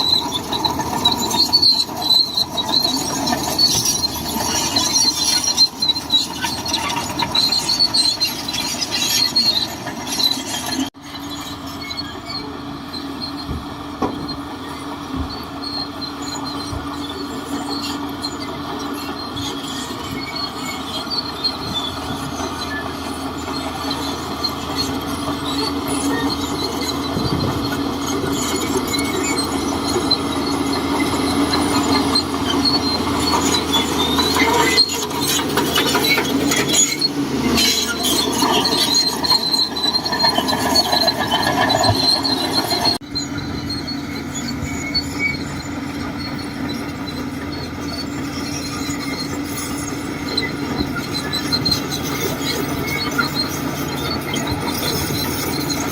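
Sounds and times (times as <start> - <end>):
bulldozer engine running: 0.0 - 55.9
steel tracks squealing and clanking: 0.0 - 55.9.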